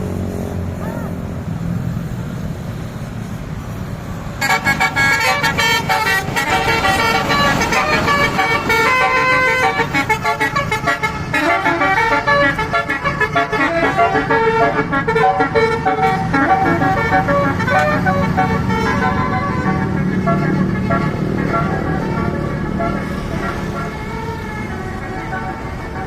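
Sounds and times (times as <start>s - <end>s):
road traffic noise: 0.0s - 26.0s
bus horn playing melody: 4.4s - 26.0s.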